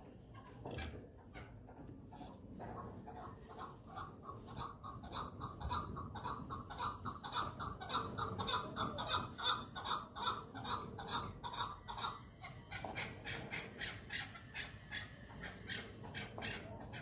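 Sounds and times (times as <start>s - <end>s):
bird calling in clucking notes: 0.0s - 17.0s.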